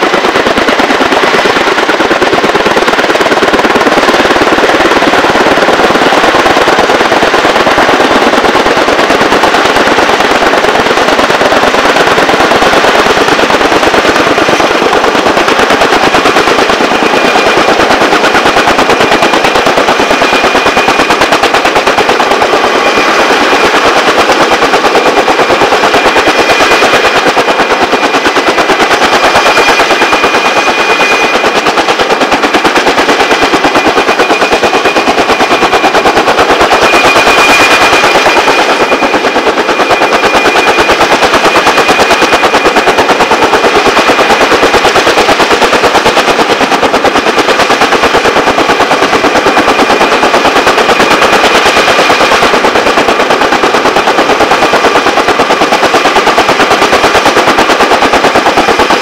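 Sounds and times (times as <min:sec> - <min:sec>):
helicopter rotors beating: 0:00.0 - 0:59.0.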